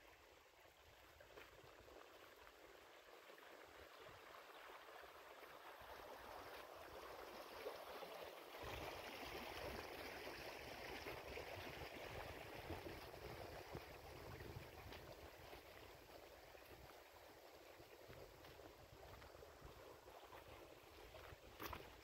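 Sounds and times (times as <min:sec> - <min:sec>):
running water rushing: 0:00.1 - 0:22.0.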